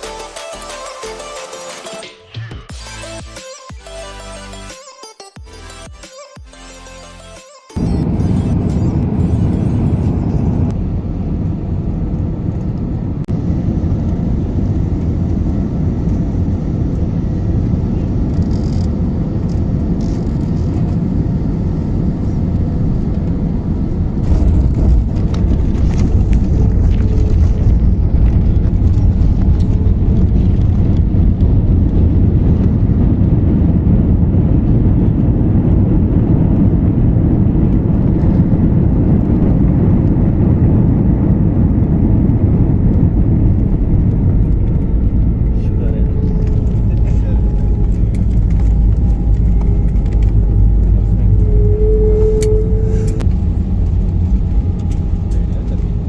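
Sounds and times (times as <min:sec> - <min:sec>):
airplane cabin rumble: 0:07.8 - 0:56.0.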